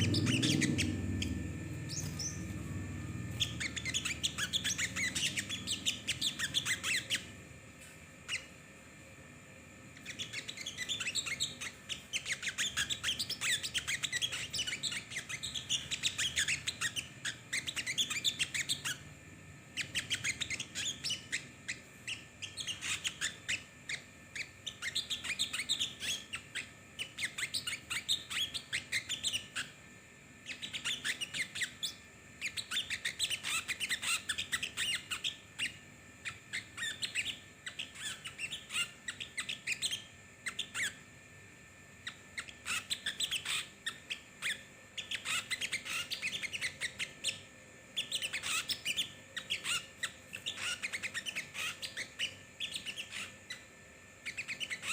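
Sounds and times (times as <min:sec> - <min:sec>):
small songbirds chattering: 0:00.0 - 0:07.4, 0:10.0 - 0:19.1, 0:19.8 - 0:29.7, 0:30.4 - 0:41.0, 0:42.0 - 0:54.9.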